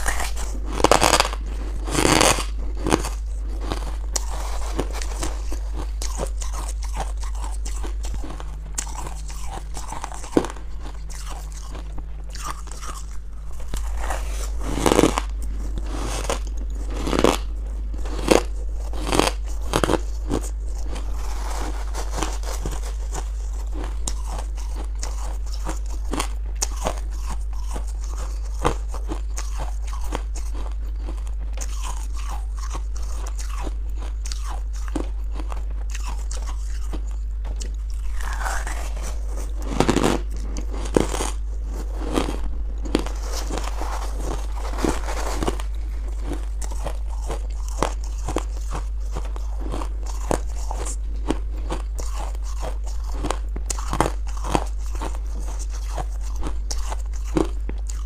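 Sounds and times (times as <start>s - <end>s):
crunchy chewing: 0.0s - 58.0s
steady low hum: 0.0s - 58.0s.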